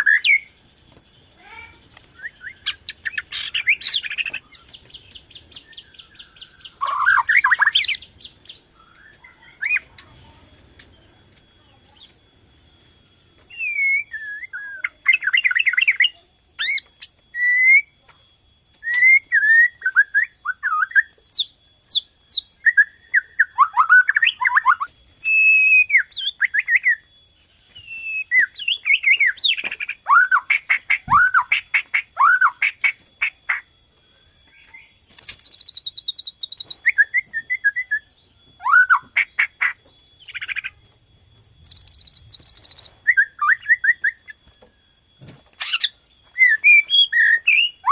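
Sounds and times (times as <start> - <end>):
bird singing whistles and trills: 0.0 - 10.1, 13.2 - 18.0, 18.7 - 33.7, 34.3 - 40.8, 41.6 - 47.9.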